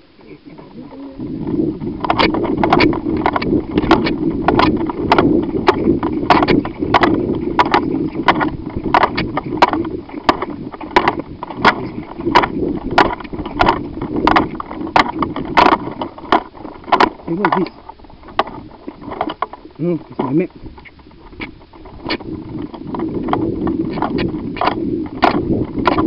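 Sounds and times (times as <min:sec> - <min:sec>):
clothing rubbing against microphone: 0:00.2 - 0:26.0
brisk footsteps: 0:01.3 - 0:26.0.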